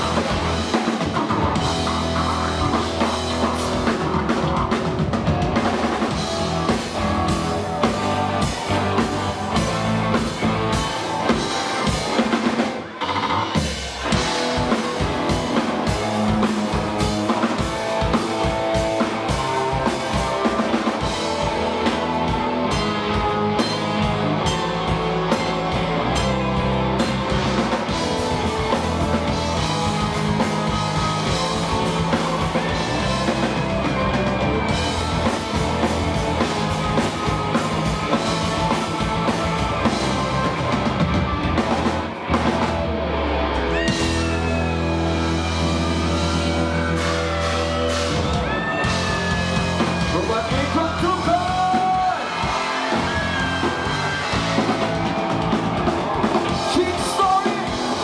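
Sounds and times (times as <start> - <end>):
bass guitar: 0.0 - 58.0
electric guitar: 0.0 - 58.0.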